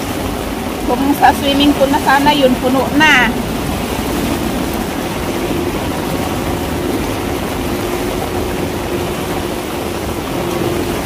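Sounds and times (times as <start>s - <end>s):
heavy rain on tiled roof: 0.0s - 11.0s.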